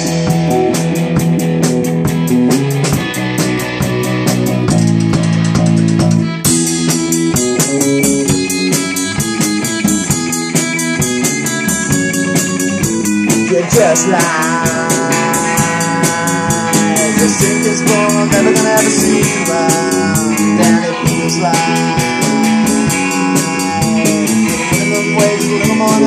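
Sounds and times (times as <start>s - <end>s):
drum kit cymbal beat: 0.0s - 26.0s
electric guitar: 0.0s - 26.0s
sustained guitar line with bends: 0.0s - 26.0s.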